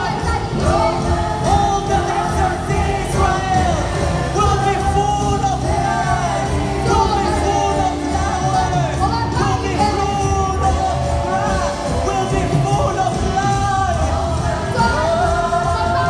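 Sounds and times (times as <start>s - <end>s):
band playing worship music: 0.0s - 16.0s
people singing into microphones: 0.0s - 16.0s
steady bass: 0.0s - 16.0s.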